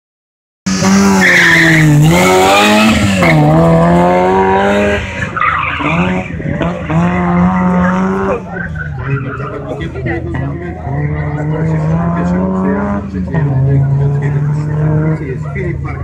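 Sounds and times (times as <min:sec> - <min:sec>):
rally car engine revving: 0:00.7 - 0:16.0.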